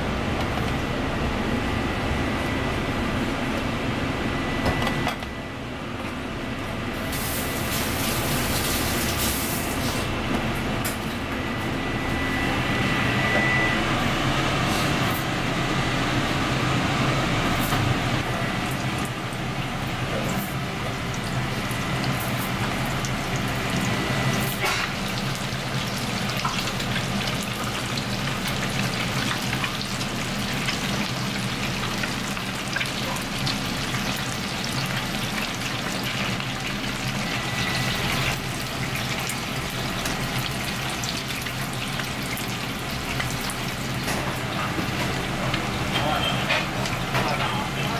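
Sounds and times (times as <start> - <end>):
oil sizzling and bubbling: 6.9 - 47.9.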